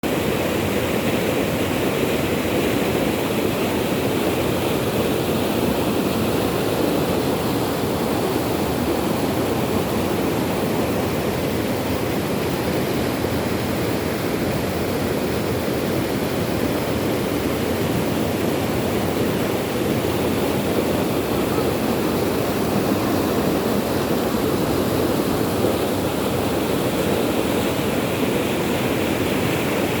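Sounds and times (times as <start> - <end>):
rushing water: 0.0 - 30.0.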